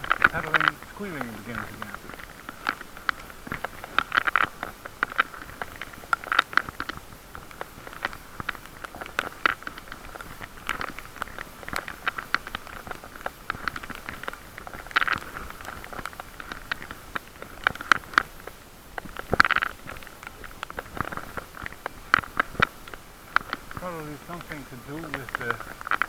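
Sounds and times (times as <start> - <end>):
bicycle drivetrain squeaking: 0.0 - 26.0.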